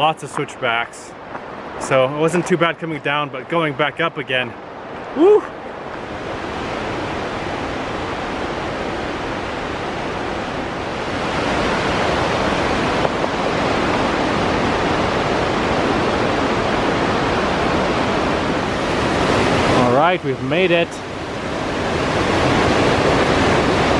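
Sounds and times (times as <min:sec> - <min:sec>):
water rushing over rapids: 0:00.0 - 0:23.9.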